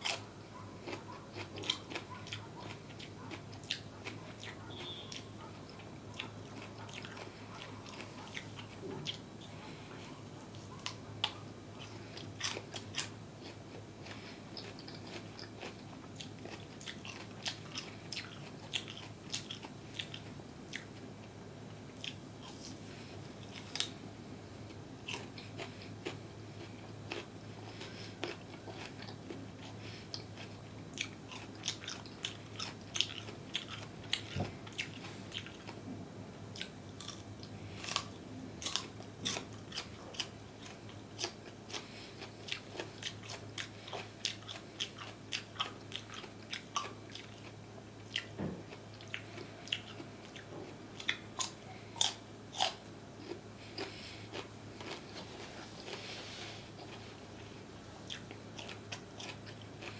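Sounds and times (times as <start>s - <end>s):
chewing crunchy food: 0.0s - 59.9s
faint low hum: 0.0s - 59.9s.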